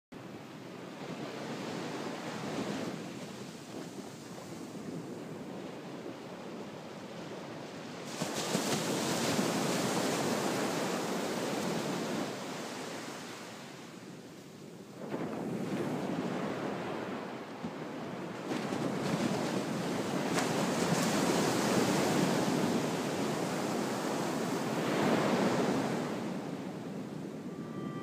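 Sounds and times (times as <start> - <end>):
ocean surf breaking on sand: 0.8 - 14.1, 15.0 - 28.0.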